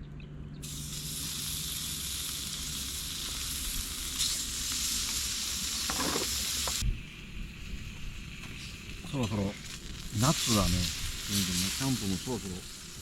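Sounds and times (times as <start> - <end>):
beef sizzling on a grill: 0.6 - 13.0.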